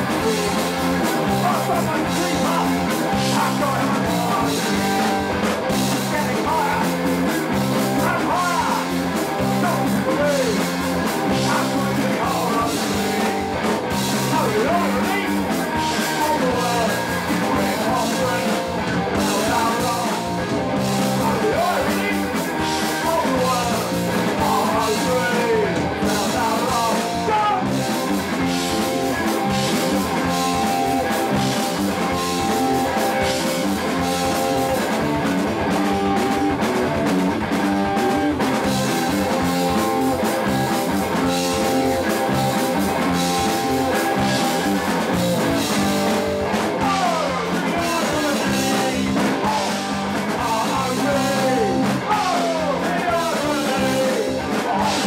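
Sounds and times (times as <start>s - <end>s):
person singing: 0.0s - 35.0s, 38.2s - 55.0s
live punk rock band: 0.0s - 55.0s.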